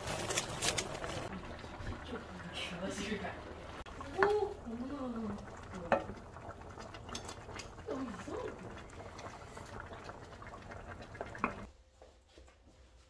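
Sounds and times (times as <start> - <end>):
low bubbling: 1.0 - 11.7.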